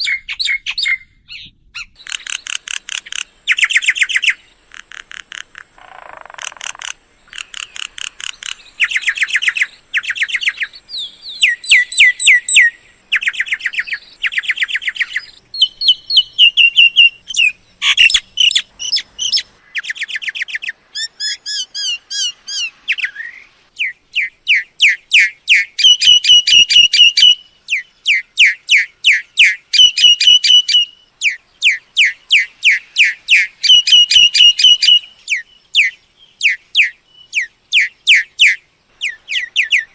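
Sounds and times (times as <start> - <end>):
myna whistled calls: 6.0 - 39.9.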